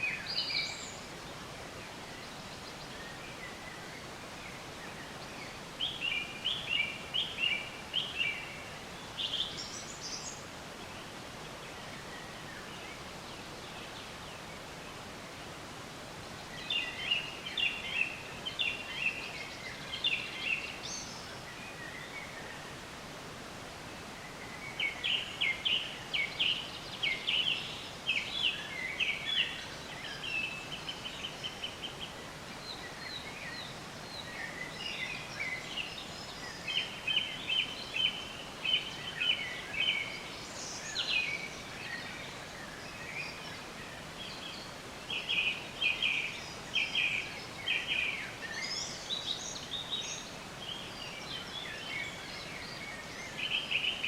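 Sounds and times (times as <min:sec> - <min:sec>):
songbirds chirping and singing: 0:00.0 - 0:54.0
steady background hiss: 0:00.0 - 0:54.0.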